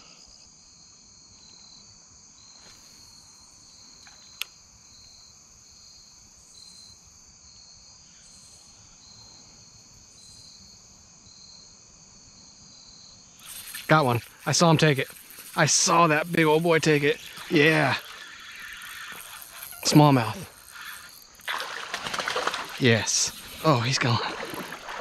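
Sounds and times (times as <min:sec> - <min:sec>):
crickets and insects trilling: 0:00.0 - 0:25.0.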